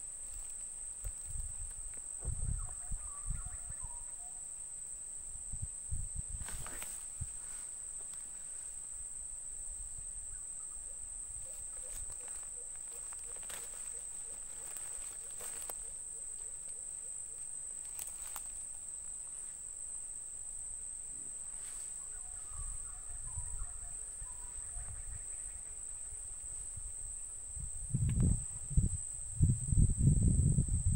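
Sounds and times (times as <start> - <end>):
high-pitched insect drone: 0.0 - 30.9.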